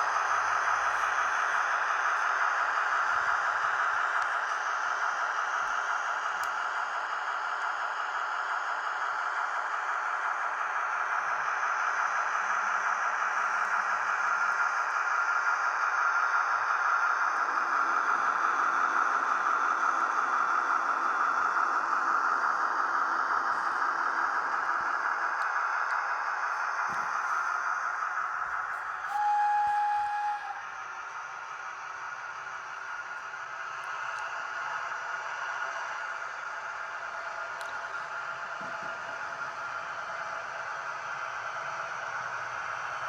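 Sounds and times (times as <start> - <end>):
model train whirring and rattling: 0.0 - 43.0.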